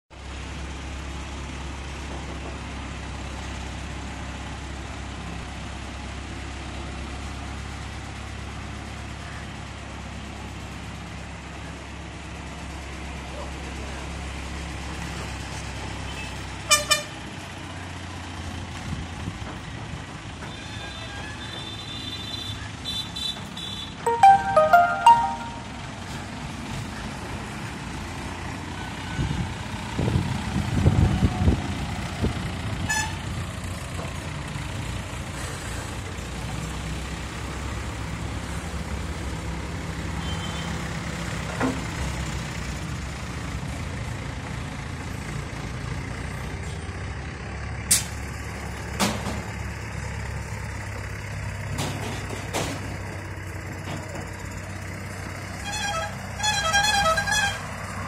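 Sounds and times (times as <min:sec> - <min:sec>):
crane diesel engine running: 0:00.2 - 0:58.0.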